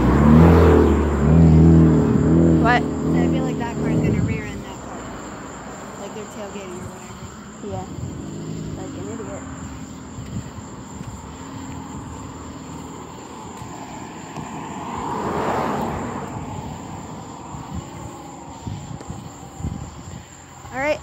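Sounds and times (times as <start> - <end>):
vehicle passing by: 0.0 - 20.3.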